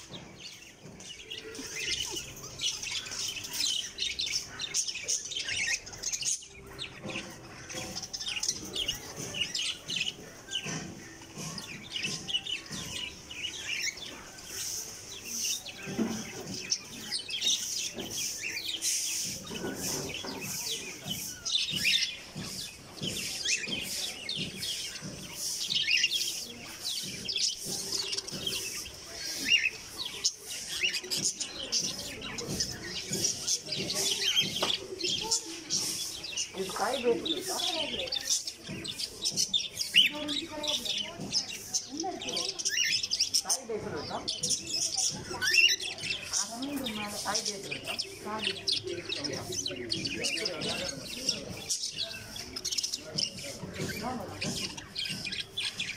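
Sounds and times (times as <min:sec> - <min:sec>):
many birds chirping and twittering: 0:00.0 - 0:55.9.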